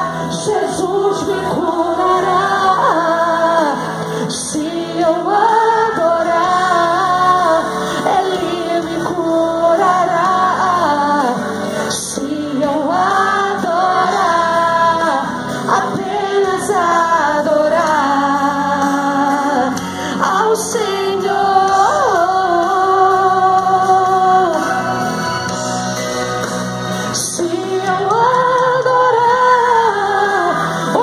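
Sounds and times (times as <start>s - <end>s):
woman singing into a microphone: 0.0s - 25.4s, 27.1s - 31.0s.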